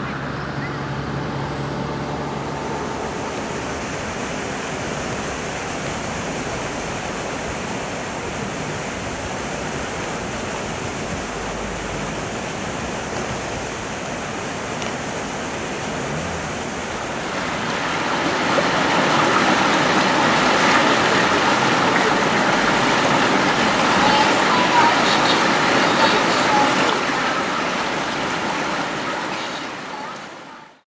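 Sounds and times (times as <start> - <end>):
floodwater rushing through channel: 0.0 - 30.8.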